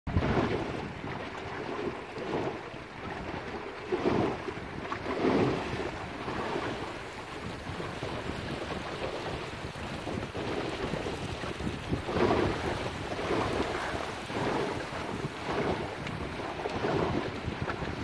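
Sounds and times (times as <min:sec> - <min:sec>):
water rushing along boat hull: 0:00.1 - 0:18.0
wind buffeting microphone: 0:00.1 - 0:18.0.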